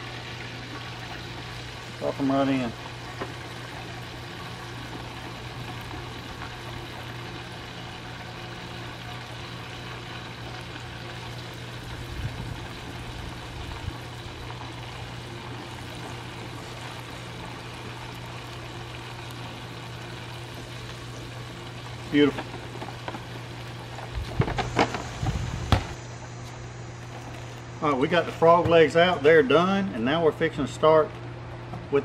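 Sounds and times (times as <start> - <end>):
oil sizzling and bubbling: 0.0 - 29.3.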